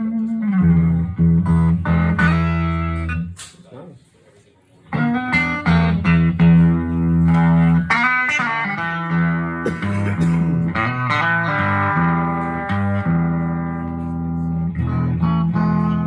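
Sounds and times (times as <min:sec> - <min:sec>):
electric guitar chords and notes: 0:00.0 - 0:03.4, 0:04.9 - 0:16.0.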